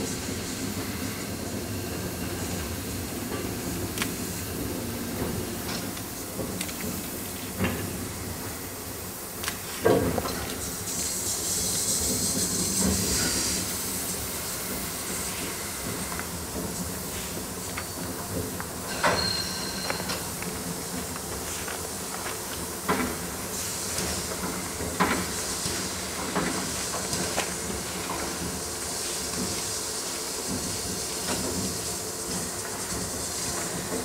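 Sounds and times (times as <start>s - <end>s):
steam hissing: 0.0s - 34.0s
steam locomotive moving slowly: 0.0s - 34.0s.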